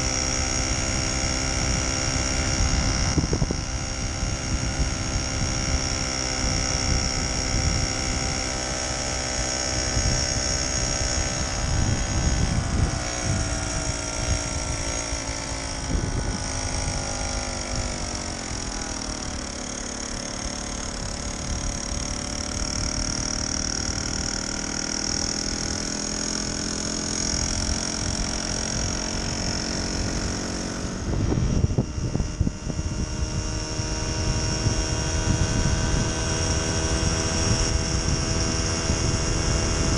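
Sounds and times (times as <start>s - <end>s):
moped engine buzzing: 0.0s - 39.9s
wind buffeting microphone: 0.0s - 39.9s.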